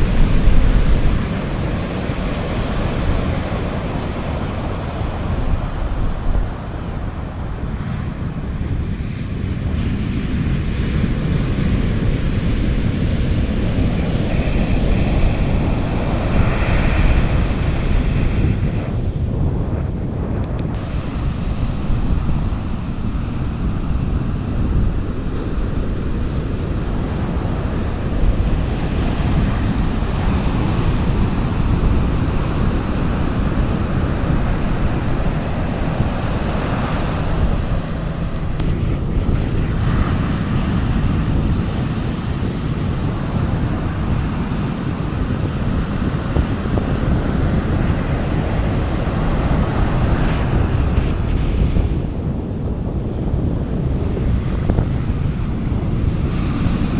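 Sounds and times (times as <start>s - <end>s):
sea waves washing onto beach: 0.0s - 56.9s
wind rumble on microphone: 0.0s - 56.9s.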